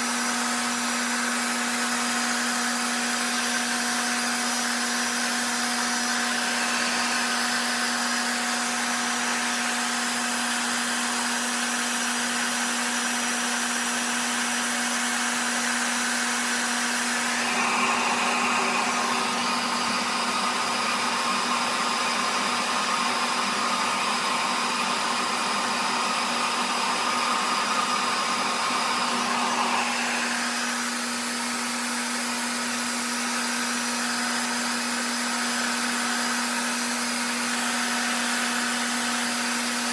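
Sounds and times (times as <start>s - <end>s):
blow dryer humming and whining: 0.0s - 39.9s.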